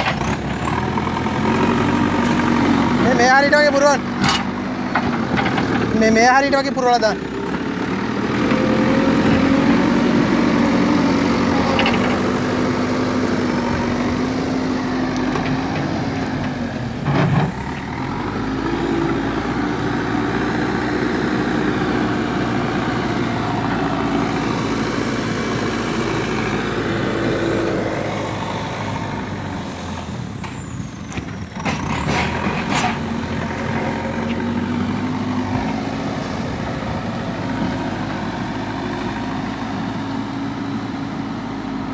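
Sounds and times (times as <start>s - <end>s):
diesel engine under load: 0.0s - 41.9s.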